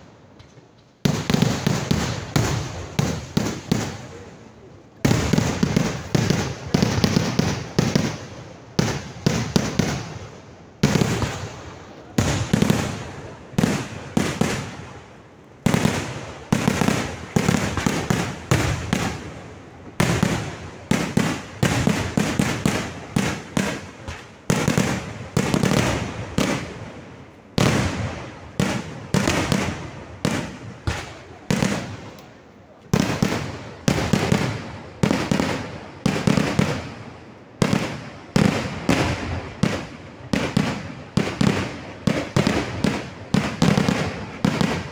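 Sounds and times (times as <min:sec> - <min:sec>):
fireworks bangs echoing: 0:00.0 - 0:44.9.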